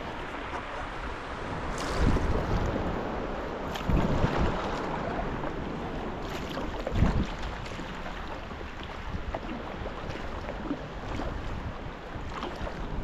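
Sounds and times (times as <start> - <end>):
water rushing along a hull: 0.0 - 13.0
water splashing: 0.0 - 13.0
wind buffeting microphone: 0.0 - 13.0.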